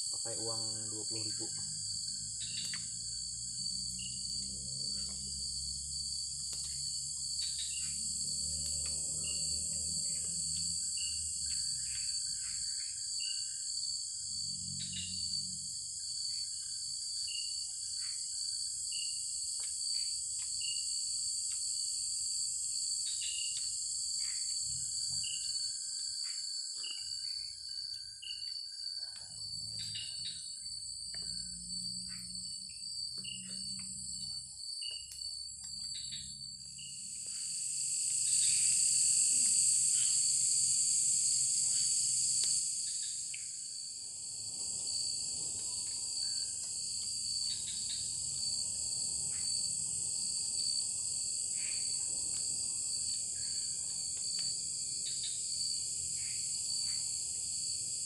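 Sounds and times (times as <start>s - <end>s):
insects buzzing: 0.0s - 58.0s
short insect chirps: 0.0s - 58.0s.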